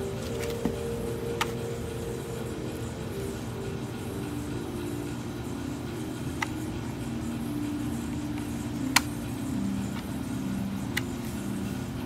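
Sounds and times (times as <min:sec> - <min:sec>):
low drone of sustained tones: 0:00.0 - 0:12.0.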